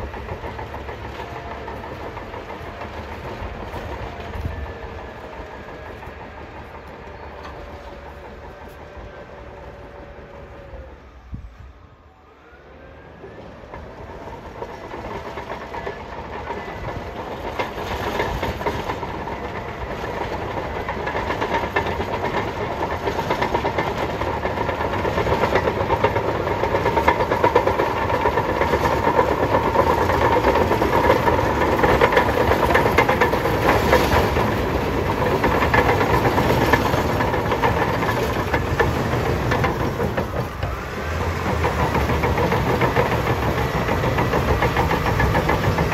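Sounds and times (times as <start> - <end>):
crawler tracks clanking: 0.0 - 11.6, 13.0 - 45.9
bulldozer diesel engine: 0.0 - 45.9.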